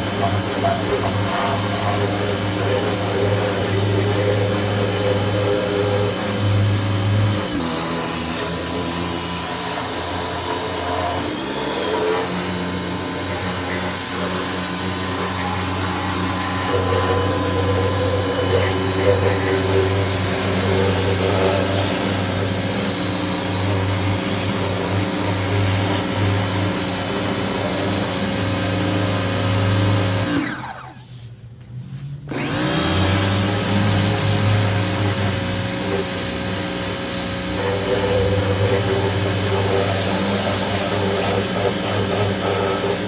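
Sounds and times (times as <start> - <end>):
pressure washer motor humming: 0.0 - 31.2, 32.3 - 43.0.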